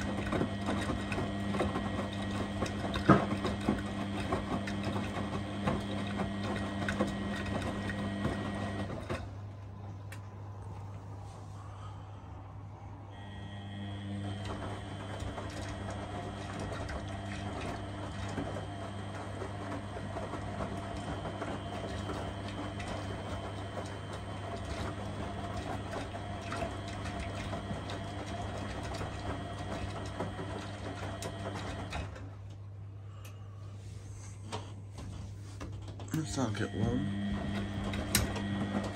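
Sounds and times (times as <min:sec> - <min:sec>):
clicks and rattles of tumbling load: 0:00.0 - 0:10.3, 0:14.3 - 0:32.7, 0:34.5 - 0:38.9
washing machine drum motor humming: 0:00.0 - 0:11.2, 0:13.1 - 0:38.9.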